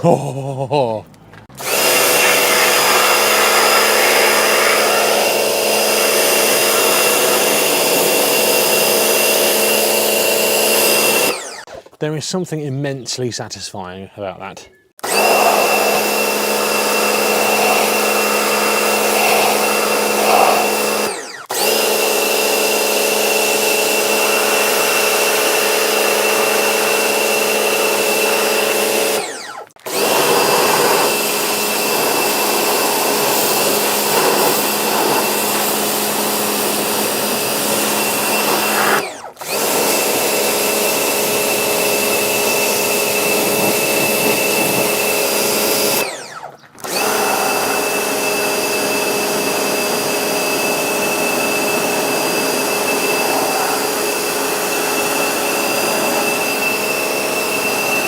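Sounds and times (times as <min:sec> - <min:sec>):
electric pressure washer spraying: 0:01.6 - 0:11.7, 0:15.0 - 0:58.0.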